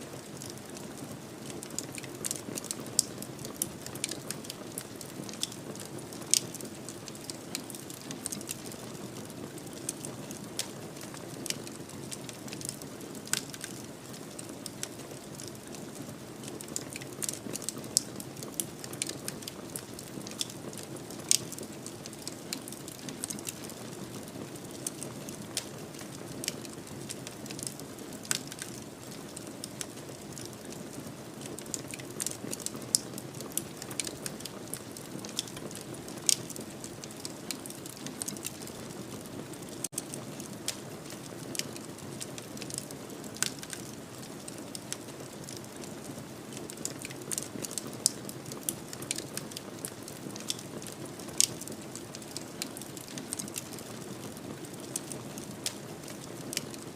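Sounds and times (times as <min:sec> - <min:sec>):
fire popping and snapping: 0:00.1 - 0:56.9.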